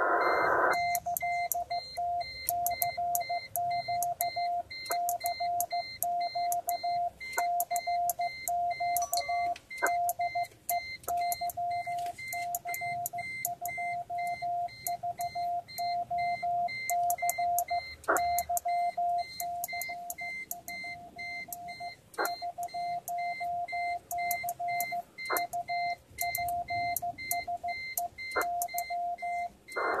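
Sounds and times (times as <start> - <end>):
morse code tone: 0.0 - 30.0.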